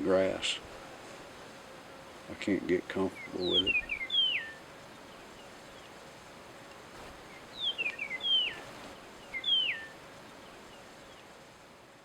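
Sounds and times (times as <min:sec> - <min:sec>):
faint outdoor hiss: 0:00.0 - 0:12.0
songbird chirping: 0:01.3 - 0:11.5.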